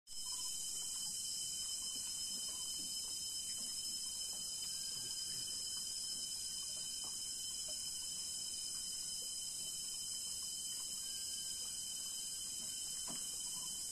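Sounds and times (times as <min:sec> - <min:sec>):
insect chorus drone: 0:00.1 - 0:13.9.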